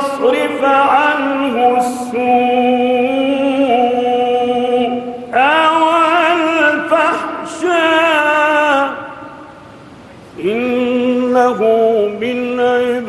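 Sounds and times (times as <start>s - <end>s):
man chanting melodically: 0.0s - 9.4s, 10.4s - 13.0s.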